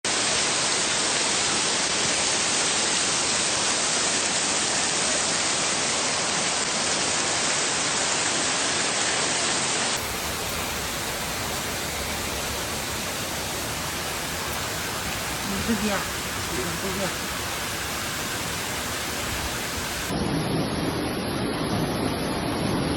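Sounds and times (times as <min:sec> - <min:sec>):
heavy rain pouring: 0:00.1 - 0:22.9.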